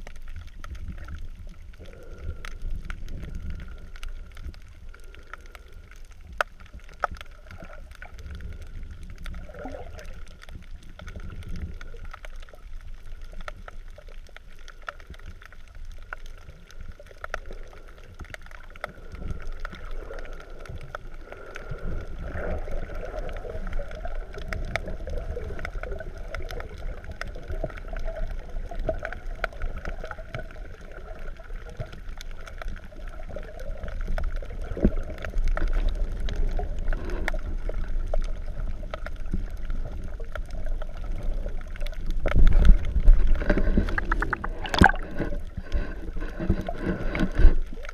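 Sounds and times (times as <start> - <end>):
underwater rumble: 0.0 - 47.9.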